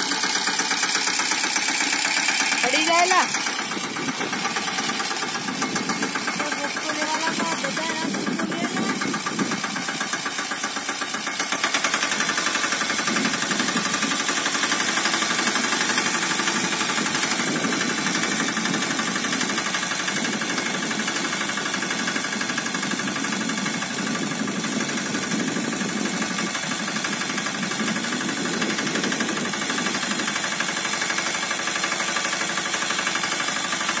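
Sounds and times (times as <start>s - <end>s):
tractor engine under load: 0.0s - 34.0s.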